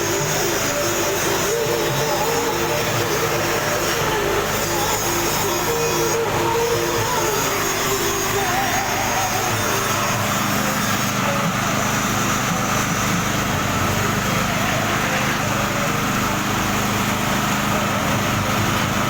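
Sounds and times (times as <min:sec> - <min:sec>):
dryer machine mechanical drone: 0:00.0 - 0:19.0.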